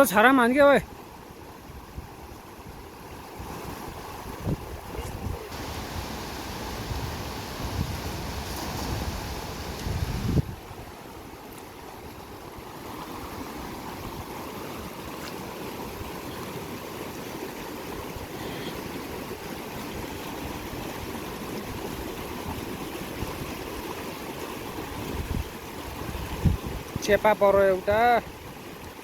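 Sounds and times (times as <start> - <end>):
river rushing over its bed: 0.0 - 29.0.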